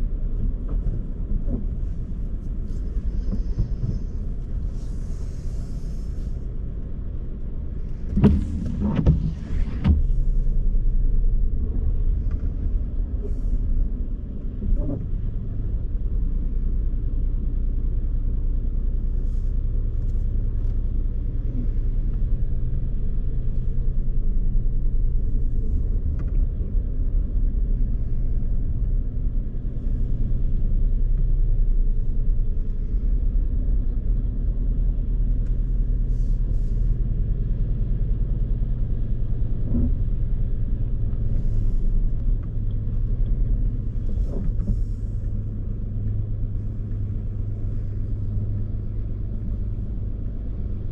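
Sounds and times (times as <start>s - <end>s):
car engine and road rumble: 0.0s - 50.9s.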